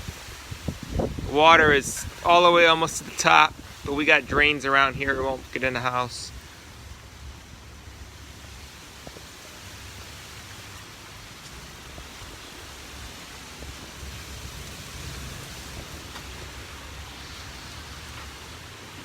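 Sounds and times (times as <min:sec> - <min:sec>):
storm wind buffeting microphone: 0:00.0 - 0:09.3, 0:10.6 - 0:19.0.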